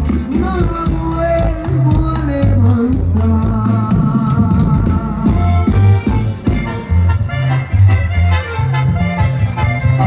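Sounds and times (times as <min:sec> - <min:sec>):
latin band music: 0:00.0 - 0:10.0.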